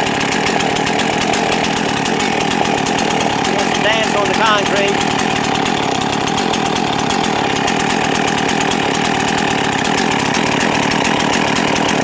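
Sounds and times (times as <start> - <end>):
chainsaw idling: 0.0 - 12.0
saw vibrating on concrete: 0.0 - 12.0.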